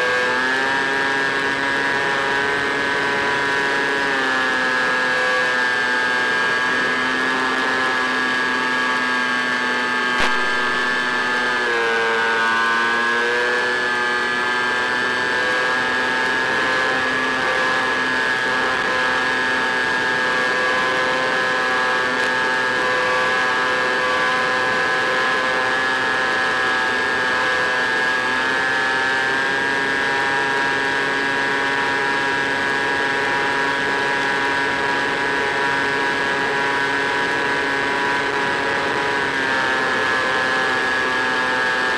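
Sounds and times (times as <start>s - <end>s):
model plane motor humming: 0.0s - 41.9s.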